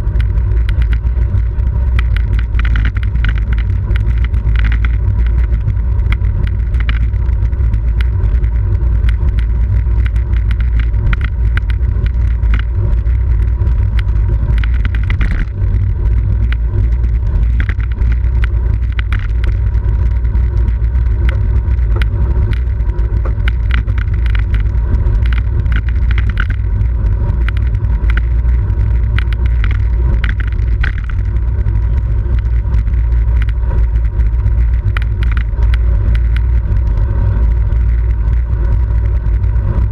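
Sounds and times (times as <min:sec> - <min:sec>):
bicycle clicks and rattles: 0:00.0 - 0:39.9
wind rumbling on microphone: 0:00.0 - 0:39.9.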